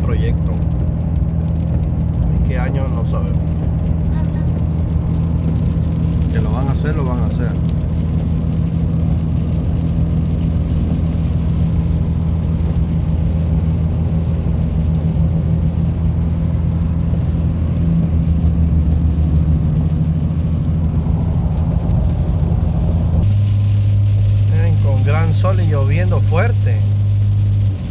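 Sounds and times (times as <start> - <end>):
engine and tyre drone in car cabin: 0.0 - 27.9.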